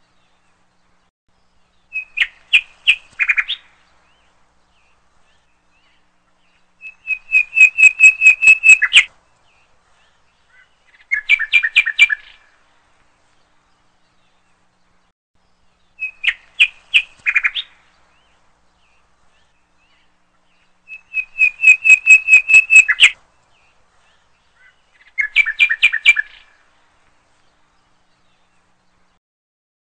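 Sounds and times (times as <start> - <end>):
songbird chirping: 0.0 - 29.2.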